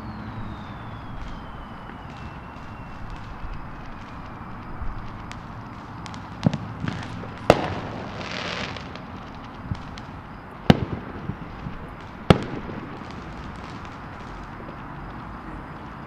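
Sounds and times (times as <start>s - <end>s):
distant fireworks bursting: 0.0s - 16.0s.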